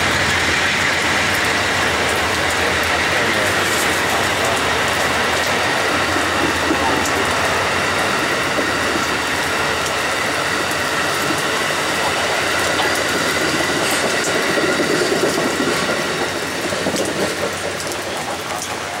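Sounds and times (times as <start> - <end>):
train cars rolling on rails: 0.0 - 19.0.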